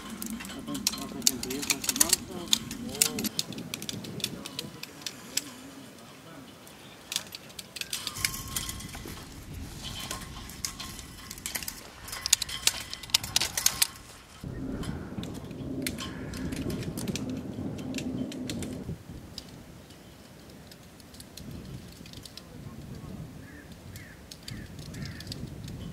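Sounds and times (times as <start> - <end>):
hand tools clicking and snapping: 0.0 - 22.9, 23.5 - 25.9.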